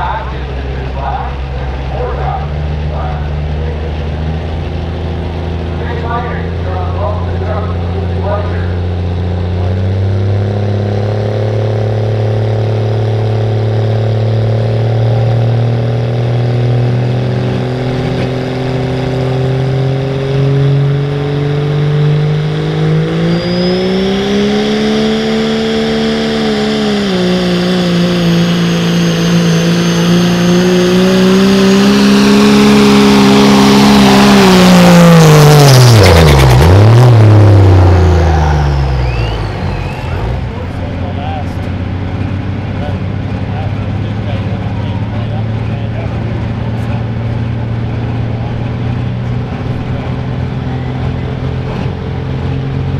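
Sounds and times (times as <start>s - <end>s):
turbo-diesel truck engine under load: 0.0s - 52.9s.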